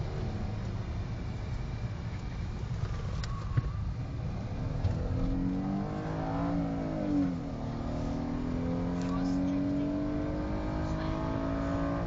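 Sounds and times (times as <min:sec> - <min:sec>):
road rumble: 0:00.0 - 0:12.0
car engine accelerating: 0:02.2 - 0:12.0.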